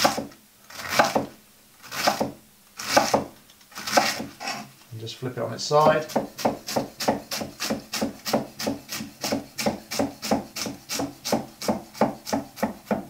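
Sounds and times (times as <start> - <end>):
knife slicing cabbage on wood: 0.0 - 1.3, 1.9 - 4.7, 5.8 - 13.0.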